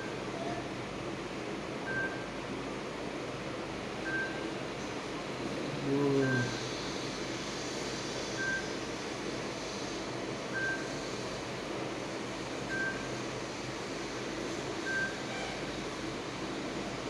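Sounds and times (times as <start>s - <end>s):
steady noisy hiss: 0.0s - 17.0s.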